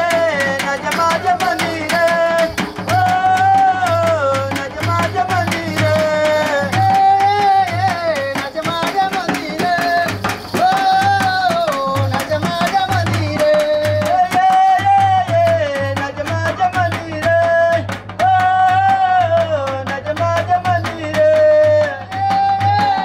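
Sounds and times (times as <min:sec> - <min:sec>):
hand drum beat: 0:00.0 - 0:23.0.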